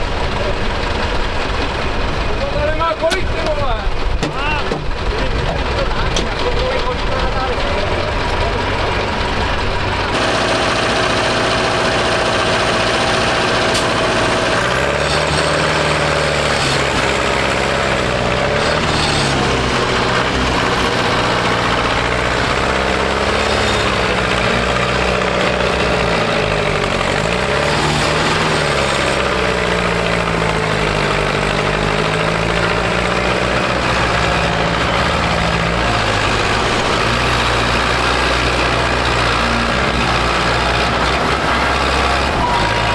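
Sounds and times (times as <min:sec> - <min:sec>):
tractor engine revving: 0:00.0 - 0:42.9.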